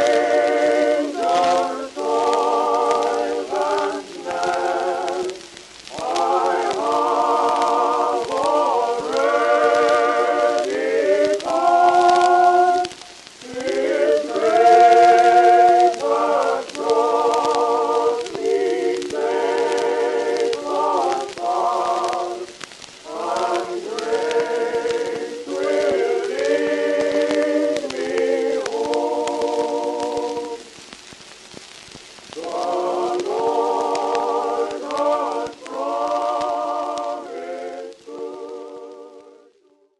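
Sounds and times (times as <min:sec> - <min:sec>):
choir singing sustained chords: 0:00.0 - 0:30.7, 0:32.4 - 0:39.9
faint steady crackle: 0:00.0 - 0:39.9.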